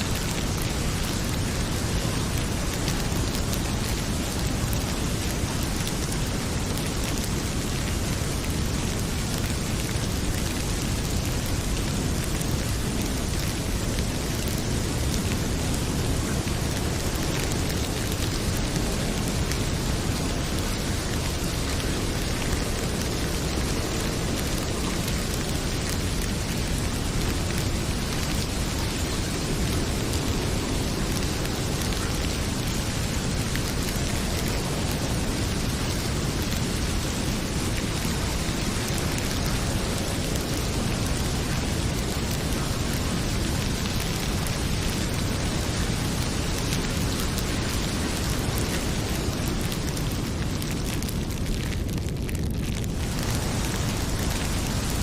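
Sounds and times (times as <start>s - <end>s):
heavy rain pouring: 0.0s - 55.0s
wood fire crackling: 0.0s - 55.0s.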